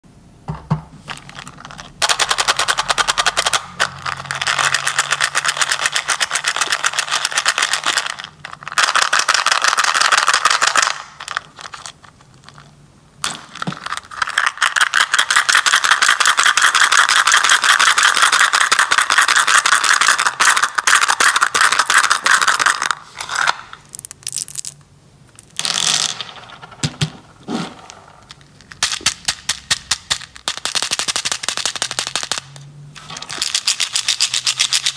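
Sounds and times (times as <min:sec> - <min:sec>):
candy wrapper crackling: 0:01.1 - 0:26.9, 0:27.7 - 0:34.9.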